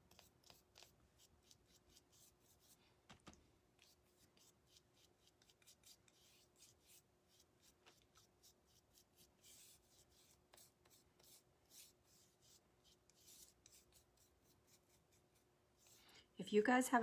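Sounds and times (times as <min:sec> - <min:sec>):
paintbrush strokes on wood: 0:00.0 - 0:02.8, 0:03.8 - 0:16.2.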